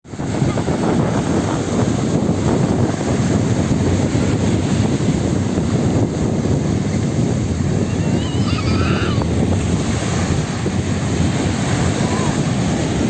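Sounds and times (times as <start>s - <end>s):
sea waves: 0.0s - 13.0s
wind blowing across microphone: 0.0s - 13.0s.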